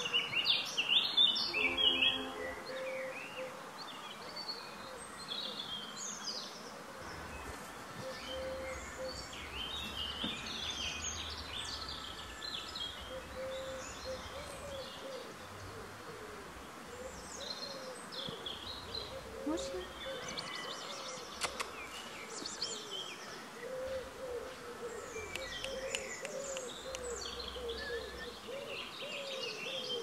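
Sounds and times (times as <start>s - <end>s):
birds chirping and singing: 0.0s - 30.0s
outdoor background hiss: 0.0s - 30.0s.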